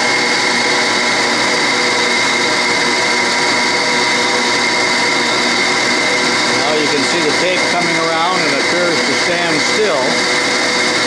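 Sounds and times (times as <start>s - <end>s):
drill press humming: 0.0s - 11.0s.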